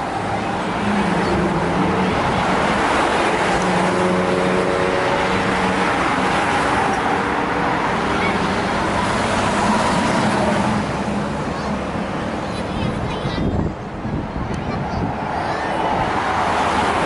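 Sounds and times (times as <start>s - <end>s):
large vehicle engines humming: 0.0s - 17.0s
road traffic passing: 0.0s - 17.0s.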